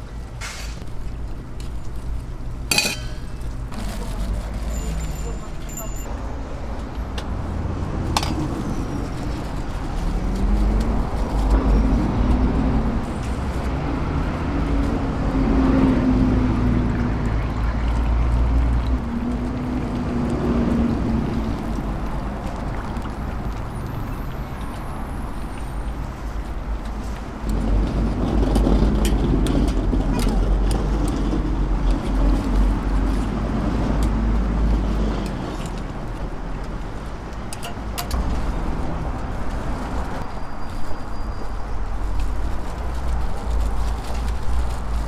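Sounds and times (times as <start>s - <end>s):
street rumble: 0.0s - 45.0s
vehicle engines: 0.0s - 45.0s.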